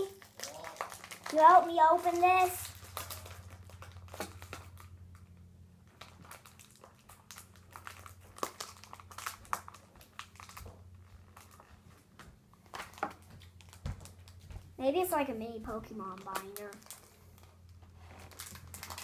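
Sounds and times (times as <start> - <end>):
plastic packaging crinkling: 0.0 - 14.5, 16.0 - 19.0.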